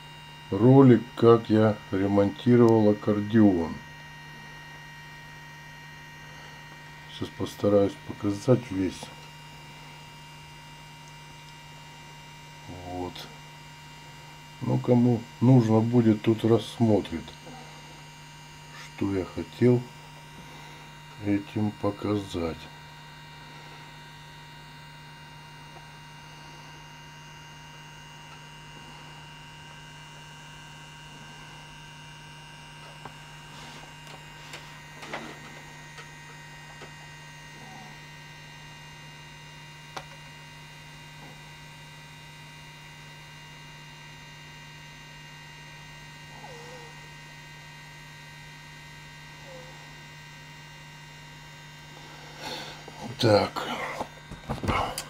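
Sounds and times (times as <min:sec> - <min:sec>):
electrical mains hum: 0:00.0 - 0:55.0
faint high whining tones: 0:00.0 - 0:55.0.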